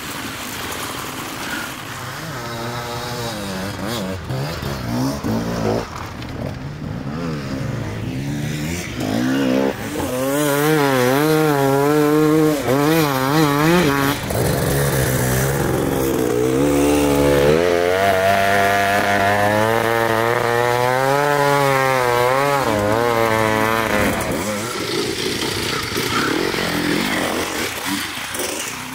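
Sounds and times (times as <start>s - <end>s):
motorcycle engines revving hard: 0.0s - 28.9s.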